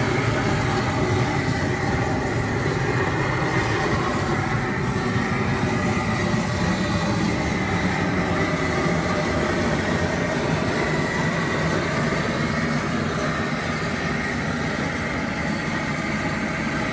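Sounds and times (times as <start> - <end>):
propane burner rushing: 0.0 - 16.9.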